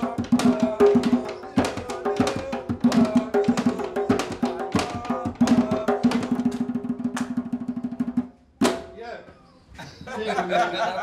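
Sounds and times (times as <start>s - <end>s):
hand drum rhythm: 0.0s - 9.0s.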